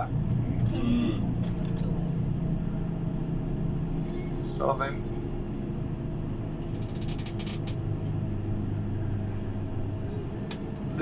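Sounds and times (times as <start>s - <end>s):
bus engine low hum: 0.0s - 11.0s.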